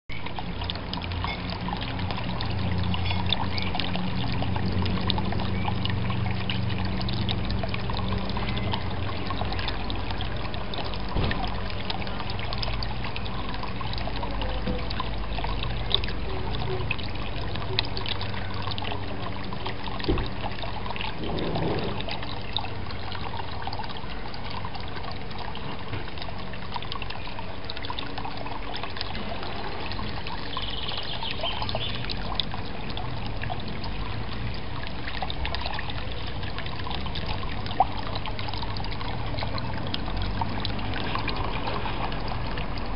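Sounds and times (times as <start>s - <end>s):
water trickling into pond: 0.1s - 42.9s.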